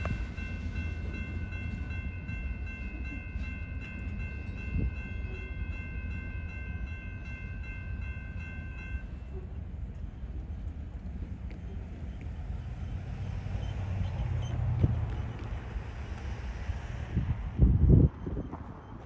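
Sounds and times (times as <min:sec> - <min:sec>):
freight train rumbling by: 0:00.0 - 0:19.0.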